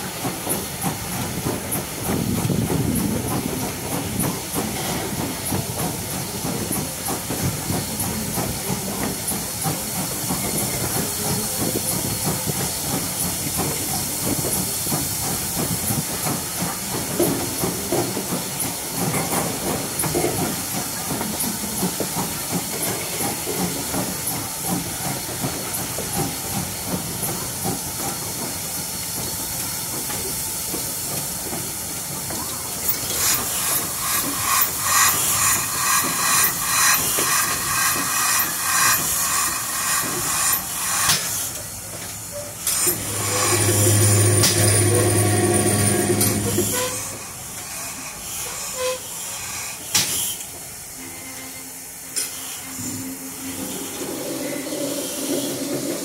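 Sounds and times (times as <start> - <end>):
train coach rumbling and rattling: 0.0 - 56.0.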